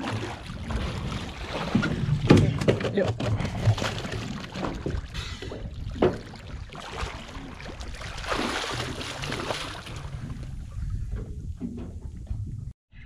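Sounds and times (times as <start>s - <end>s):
fins kicking and splashing: 0.0s - 10.6s
water lapping at boat hull: 0.0s - 12.6s.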